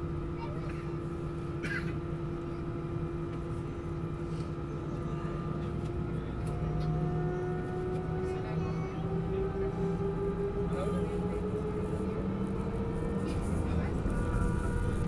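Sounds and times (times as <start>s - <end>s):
jet engine hum and rumble: 0.0s - 15.0s.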